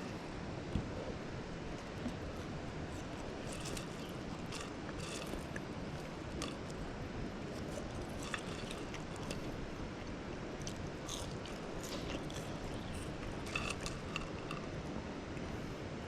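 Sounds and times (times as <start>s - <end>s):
low outdoor rumble: 0.0s - 16.0s
crunching fries: 1.7s - 14.9s.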